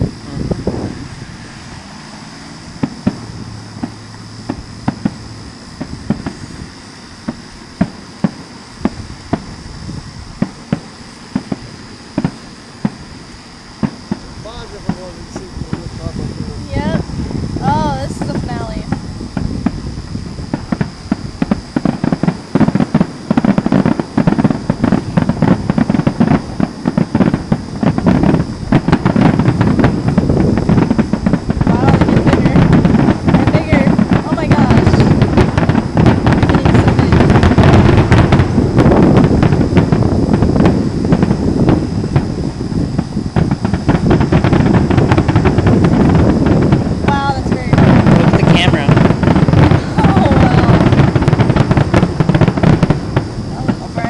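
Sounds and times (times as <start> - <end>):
distant fireworks bangs: 0.0 - 54.0
steady high hiss: 0.0 - 54.0.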